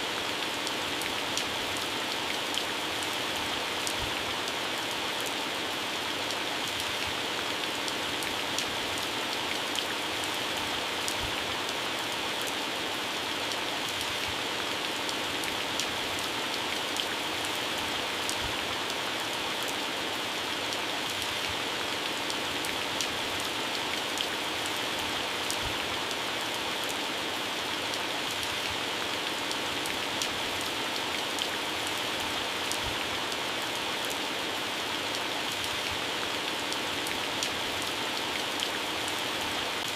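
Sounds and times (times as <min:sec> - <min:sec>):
heavy rain on plants: 0:00.0 - 0:39.9.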